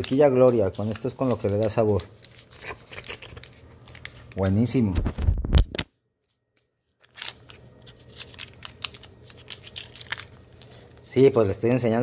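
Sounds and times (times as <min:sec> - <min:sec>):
rustling and crinkling in hands: 0:00.0 - 0:05.5, 0:06.1 - 0:12.0.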